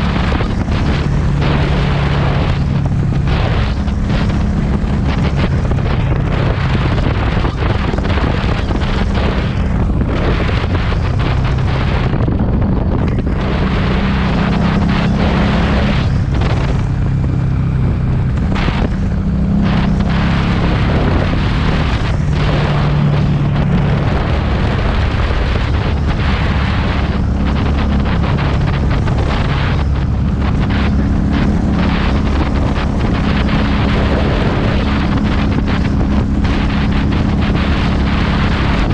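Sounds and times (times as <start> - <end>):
motorcycle exhaust note: 0.0 - 38.9
wind buffeting microphone: 0.0 - 38.9.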